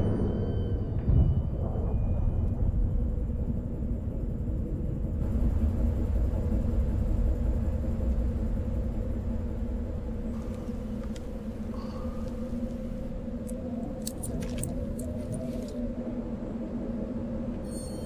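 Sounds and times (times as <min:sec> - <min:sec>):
low rumble with droning hum: 0:00.0 - 0:18.0.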